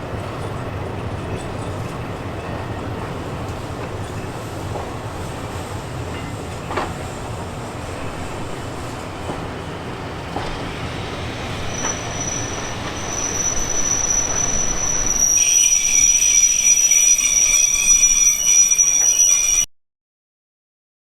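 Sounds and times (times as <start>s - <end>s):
train rumbling on rails: 0.0s - 19.7s
wheels squealing on rails: 0.0s - 19.7s.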